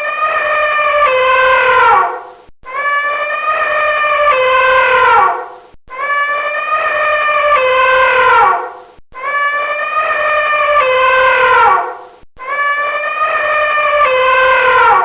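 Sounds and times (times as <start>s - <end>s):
high horn-like animal call: 0.0s - 15.0s.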